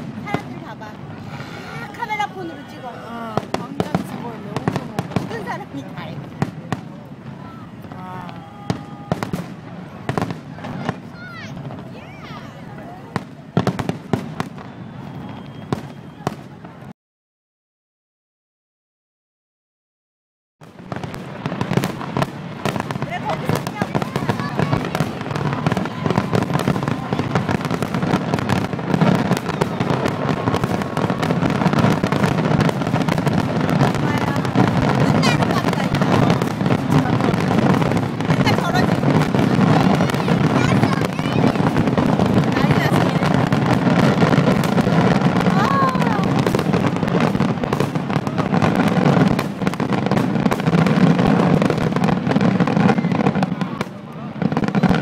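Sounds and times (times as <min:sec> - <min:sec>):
fireworks bangs: 0:00.0 - 0:16.9, 0:20.6 - 0:55.0.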